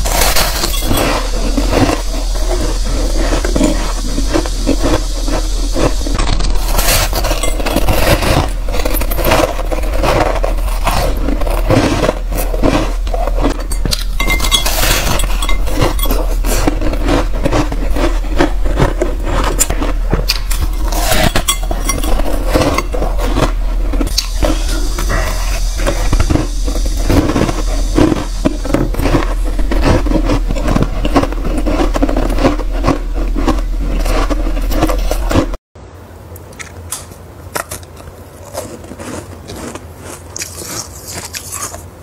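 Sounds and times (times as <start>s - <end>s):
ice crunching while chewed: 0.0s - 35.6s, 37.6s - 41.9s.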